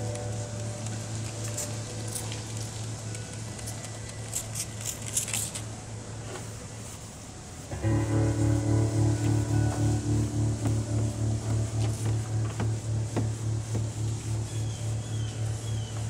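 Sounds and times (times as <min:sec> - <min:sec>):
faint low drone: 0:00.0 - 0:06.2, 0:07.4 - 0:16.0.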